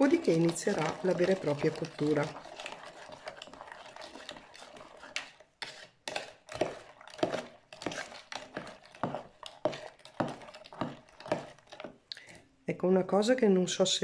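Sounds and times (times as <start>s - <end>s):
metal spoon scraping in plastic jug: 0.0s - 12.0s.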